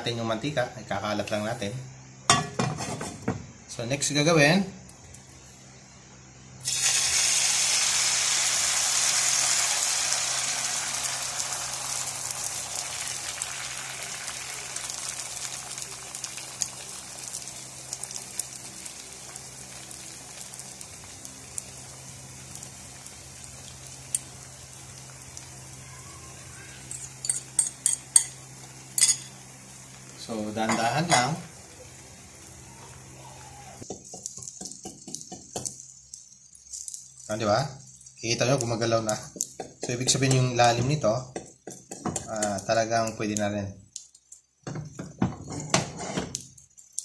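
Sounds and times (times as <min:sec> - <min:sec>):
food frying in oil: 0:06.6 - 0:47.0.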